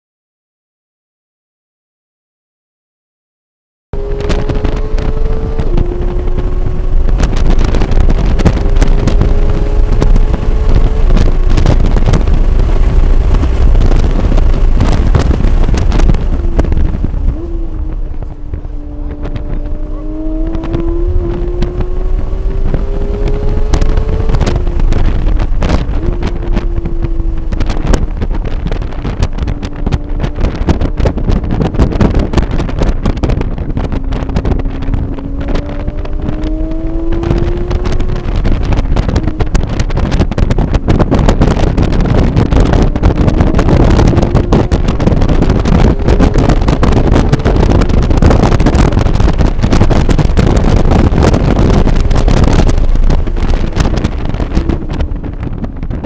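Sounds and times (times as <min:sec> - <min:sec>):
car engine at speed: 0:04.0 - 0:56.0
road tyre and wind noise: 0:04.0 - 0:56.0.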